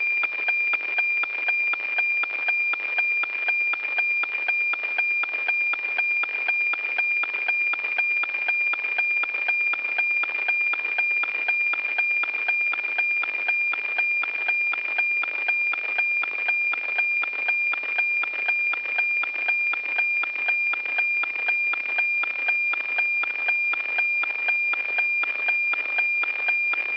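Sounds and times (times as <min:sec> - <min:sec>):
satellite radio signal ticking tone: 0:00.0 - 0:26.9.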